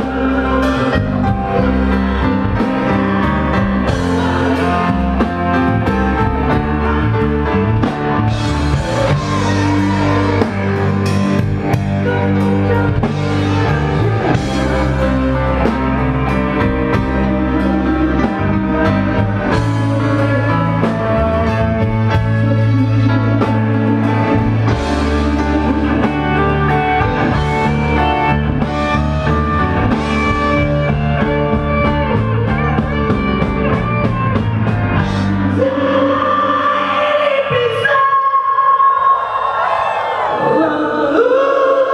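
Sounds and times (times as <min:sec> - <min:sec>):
drum kit: 0:00.0 - 0:37.0
bass guitar: 0:00.0 - 0:37.8
electric guitar: 0:00.0 - 0:41.9.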